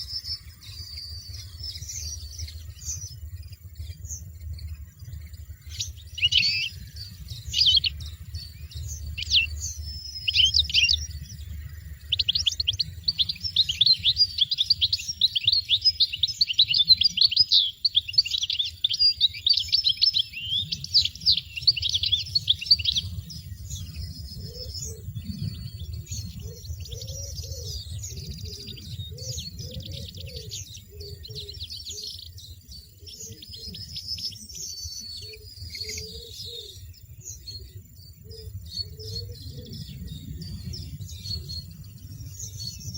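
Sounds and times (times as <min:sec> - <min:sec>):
goldfinches chirping: 0:00.0 - 0:42.9.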